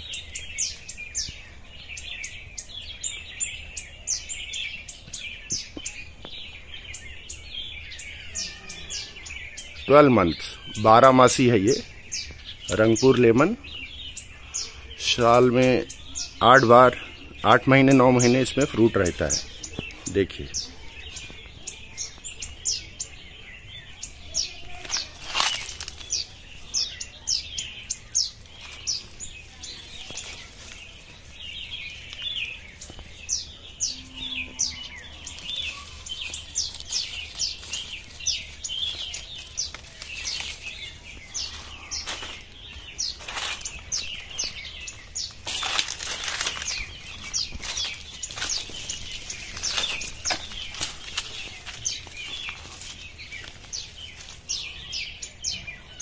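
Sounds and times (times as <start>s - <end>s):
leaves and branches rustling: 0.0s - 56.0s
small birds chirping: 0.0s - 56.0s.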